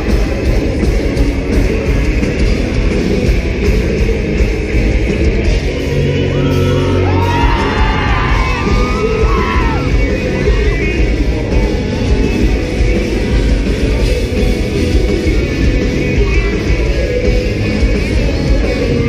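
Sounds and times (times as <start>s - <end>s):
live punk band playing: 0.0s - 19.0s
voices yelling and singing: 0.0s - 19.0s.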